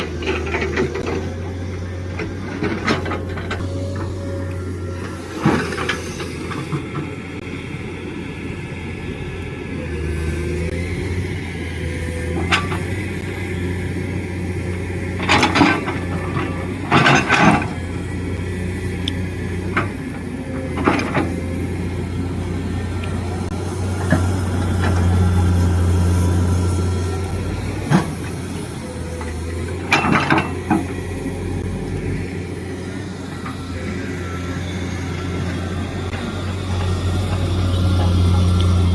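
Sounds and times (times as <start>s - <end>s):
excavator diesel engine drone: 0.0s - 38.9s.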